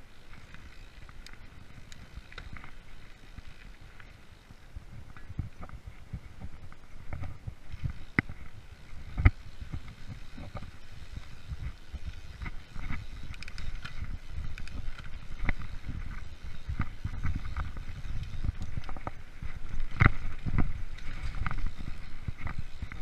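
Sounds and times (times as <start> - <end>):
bike rattles and knocks: 0.0 - 23.0
mountain bike rolling rumble: 0.0 - 23.0.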